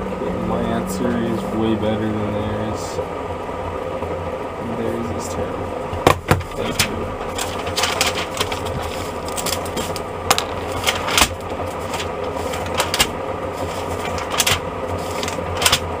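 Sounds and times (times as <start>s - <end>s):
water boiler humming: 0.0s - 16.0s.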